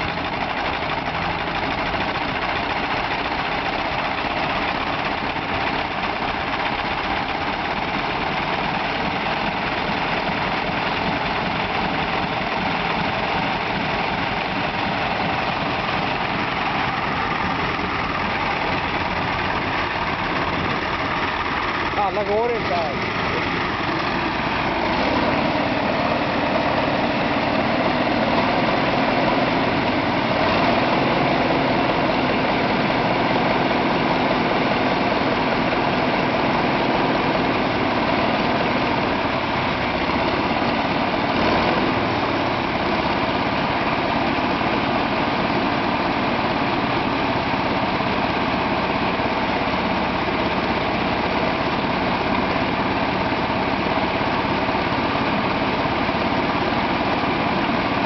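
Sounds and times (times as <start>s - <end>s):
aircraft engine running: 0.0s - 58.0s.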